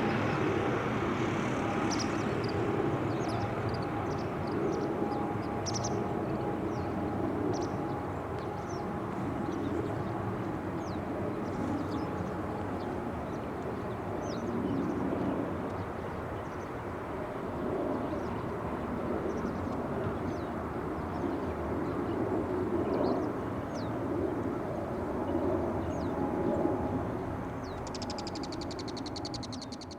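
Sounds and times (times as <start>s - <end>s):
distant jet engine rumble: 0.0s - 29.9s.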